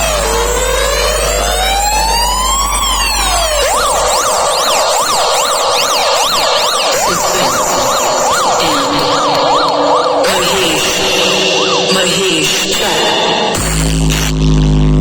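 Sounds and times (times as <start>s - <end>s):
low bass drone: 0.0s - 4.1s, 7.0s - 15.0s
electronic siren wail and yelp: 0.0s - 13.9s.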